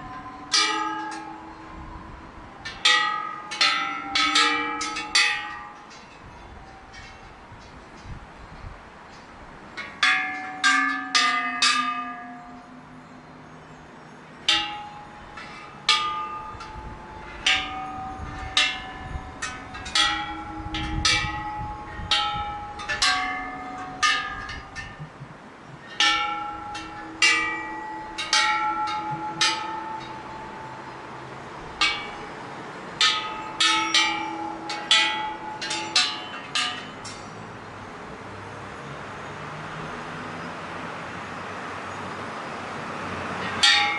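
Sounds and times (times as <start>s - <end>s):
temple bells clanging: 0.0s - 40.4s, 41.9s - 43.9s.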